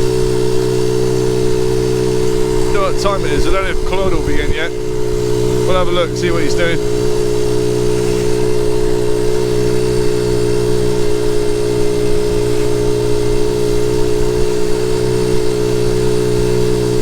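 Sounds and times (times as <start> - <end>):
small motorbike engine running: 0.0 - 17.0.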